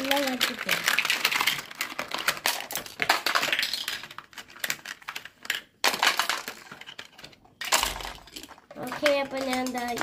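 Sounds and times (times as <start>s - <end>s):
plastic toy pieces clicking: 0.0s - 10.0s.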